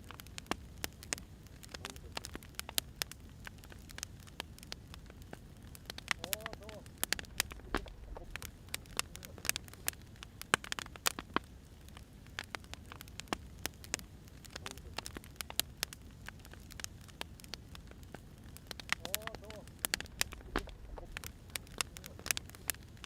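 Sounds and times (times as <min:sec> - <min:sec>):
firewood crackling and popping: 0:00.0 - 0:23.0
soft steady rumble: 0:00.0 - 0:23.0.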